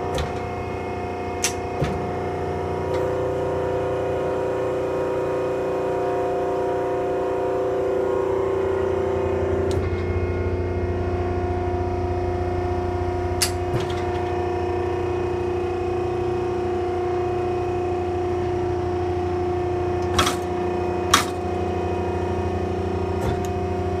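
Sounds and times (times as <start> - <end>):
baler mechanical hum: 0.0 - 24.0.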